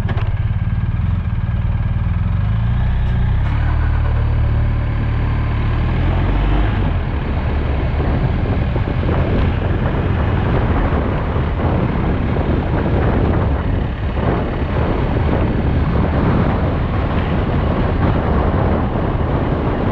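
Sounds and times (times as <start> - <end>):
low even rumble: 0.0 - 19.9
wind buffeting microphone: 3.4 - 19.9.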